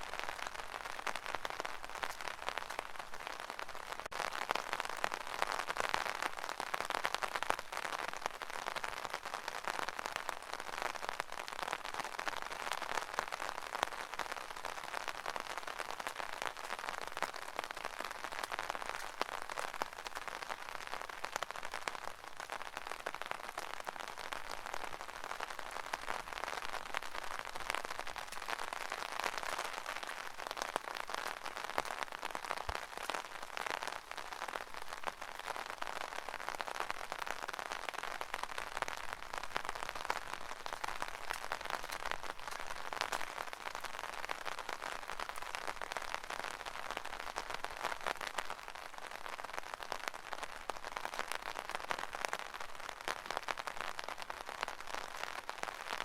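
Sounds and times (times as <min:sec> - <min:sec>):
rain pattering on umbrella: 0:00.0 - 0:56.0.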